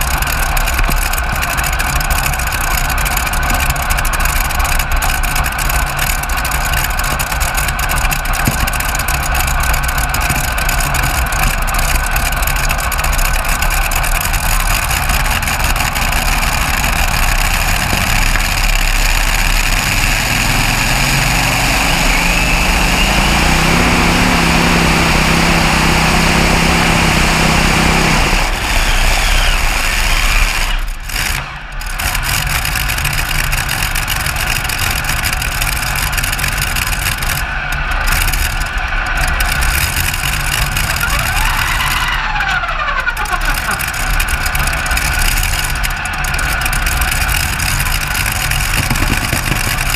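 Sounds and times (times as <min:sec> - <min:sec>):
loud engines revving under load: 0:00.0 - 0:49.9.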